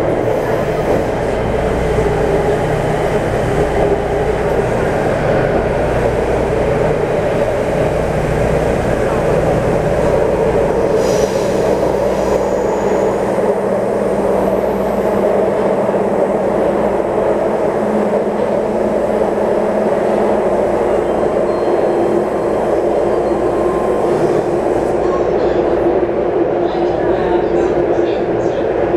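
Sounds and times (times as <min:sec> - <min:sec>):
train wheels rumbling: 0:00.0 - 0:28.4.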